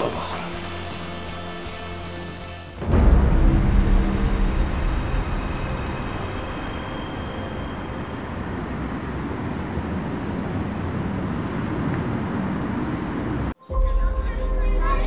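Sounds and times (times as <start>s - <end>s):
city traffic road noise: 0.0s - 13.6s.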